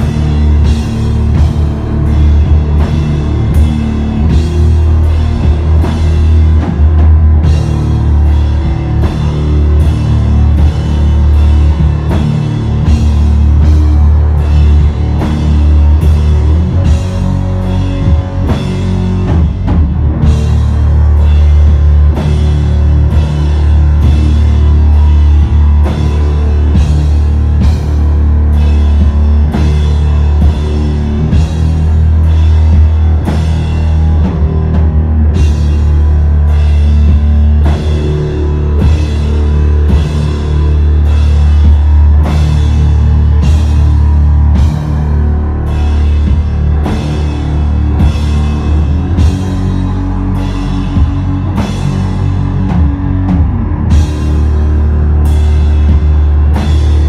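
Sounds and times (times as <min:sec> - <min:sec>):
distorted guitars and bass: 0:00.0 - 0:57.0
drum and cymbal hits: 0:00.0 - 0:57.0.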